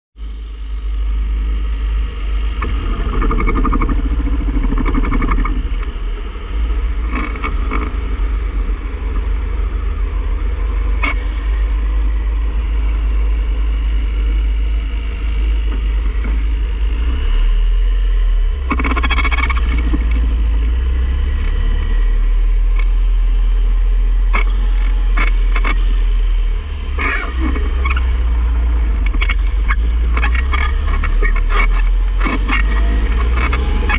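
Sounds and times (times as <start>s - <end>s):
drivetrain rumble: 0.2s - 33.9s.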